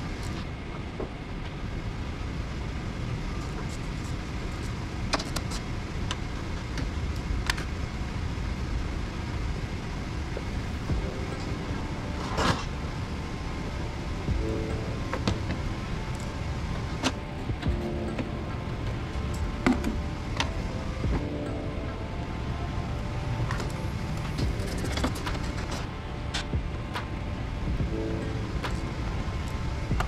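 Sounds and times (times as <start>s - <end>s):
vehicle engine rumbling: 2.0s - 30.0s.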